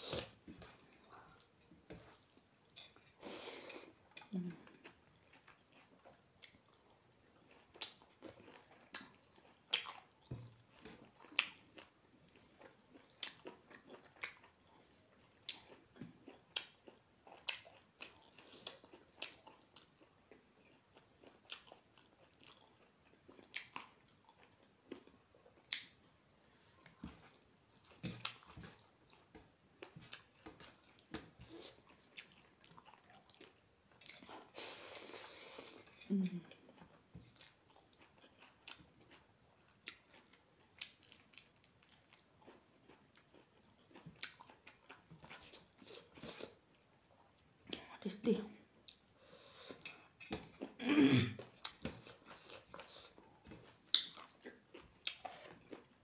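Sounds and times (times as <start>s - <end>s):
person chewing food: 0.0s - 48.0s, 48.6s - 56.0s.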